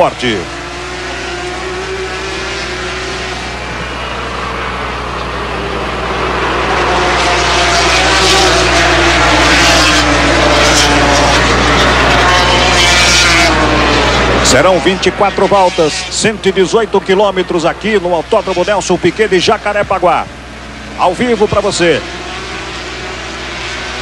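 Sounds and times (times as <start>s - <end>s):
racing motorcycles at high revs: 0.0s - 24.0s.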